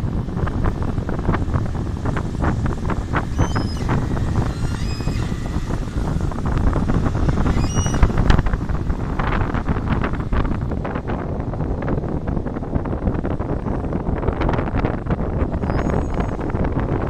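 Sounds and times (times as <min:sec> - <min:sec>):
diesel engine running hard: 0:00.0 - 0:14.2
wind buffeting microphone: 0:00.0 - 0:17.0.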